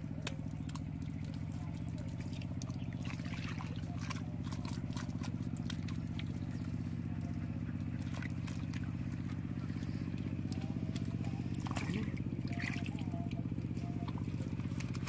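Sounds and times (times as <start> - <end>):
hands patting wet mud: 0.0 - 15.0
small engine droning: 0.0 - 15.0.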